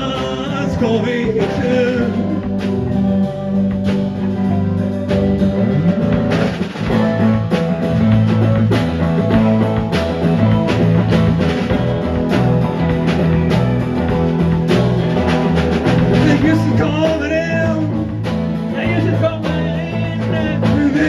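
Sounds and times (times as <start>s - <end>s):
bass guitar: 0.0s - 21.0s
drum kit beat: 0.0s - 21.0s
electric guitars: 0.0s - 21.0s.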